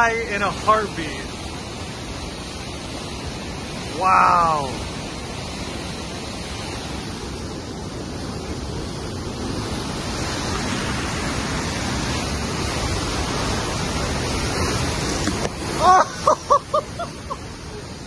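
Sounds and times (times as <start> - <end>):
white water rushing: 0.0 - 18.0.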